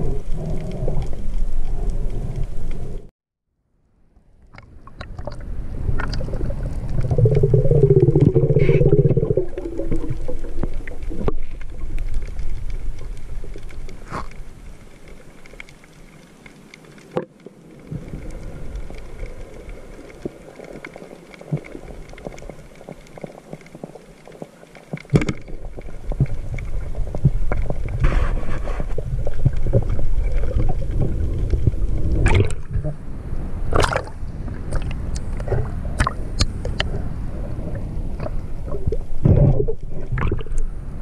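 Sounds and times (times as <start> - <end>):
muffled underwater rumble: 0.0 - 3.1, 3.9 - 41.0.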